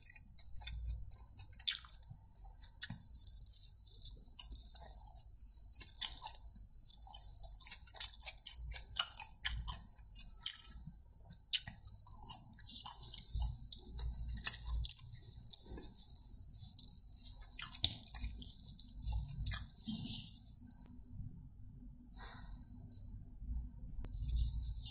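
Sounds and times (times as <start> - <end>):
chewing and biting: 0.0 - 20.9.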